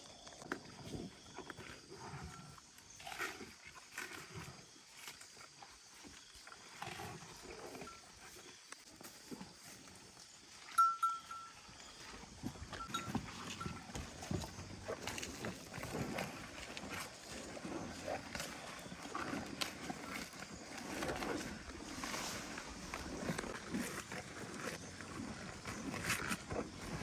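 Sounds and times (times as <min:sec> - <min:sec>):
livestock movement noises: 0:00.2 - 0:27.0.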